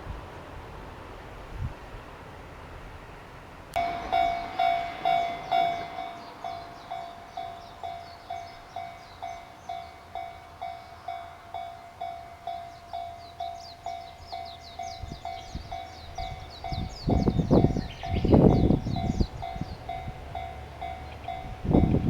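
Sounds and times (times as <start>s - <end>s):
level crossing warning bell: 3.8s - 22.0s.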